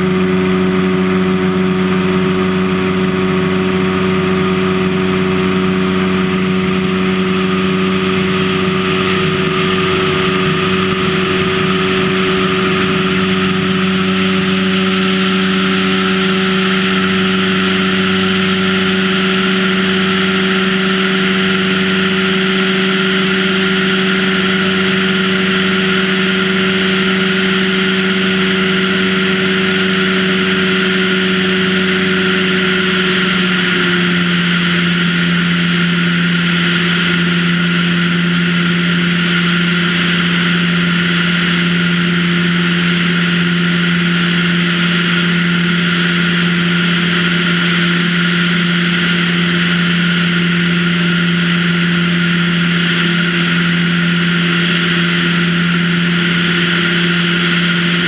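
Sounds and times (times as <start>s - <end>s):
plane engine and propeller drone: 0.0s - 58.0s.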